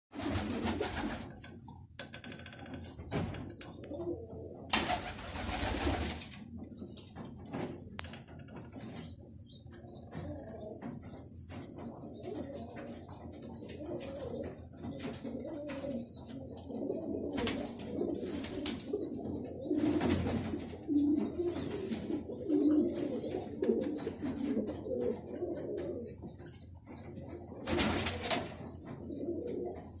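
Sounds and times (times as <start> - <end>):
pigeons cooing: 3.0 - 6.1, 8.6 - 30.0.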